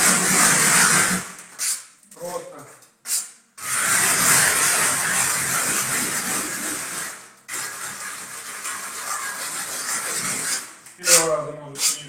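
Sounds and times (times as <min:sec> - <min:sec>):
trowel scraping gritty plaster: 0:00.0 - 0:01.9, 0:03.1 - 0:12.0.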